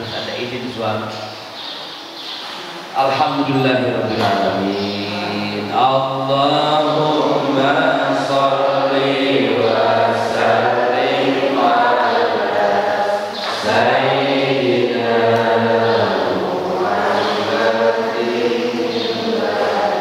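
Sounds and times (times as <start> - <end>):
man chanting through microphone: 3.0 - 20.0.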